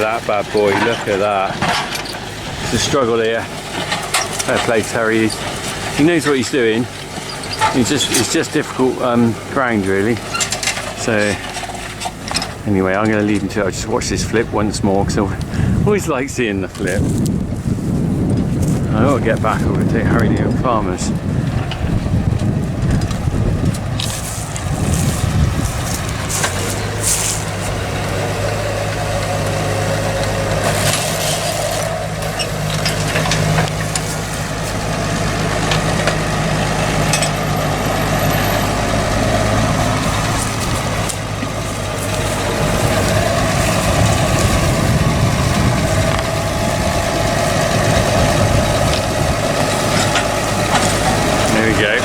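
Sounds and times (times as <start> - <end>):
plough clanking and knocking: 0.0 - 15.6, 18.3 - 52.0
tractor engine under load: 0.0 - 52.0.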